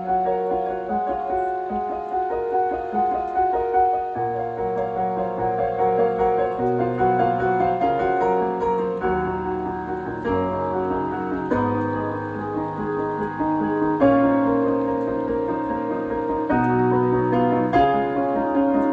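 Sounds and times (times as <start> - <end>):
slow piano music: 0.0 - 18.9.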